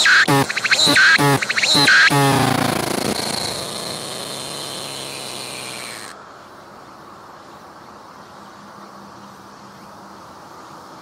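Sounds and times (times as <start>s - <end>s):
cicada singing: 0.0s - 10.9s
faint background hiss: 0.4s - 11.0s.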